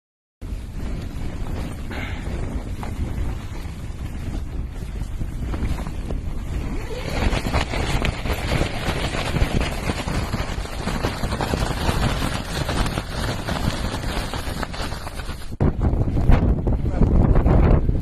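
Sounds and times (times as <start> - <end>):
wind buffeting microphone: 0.4 - 18.0.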